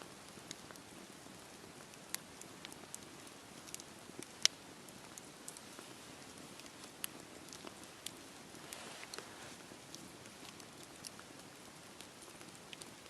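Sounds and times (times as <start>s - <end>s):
campfire crackling: 0.0s - 13.0s
rain hiss: 0.0s - 13.0s.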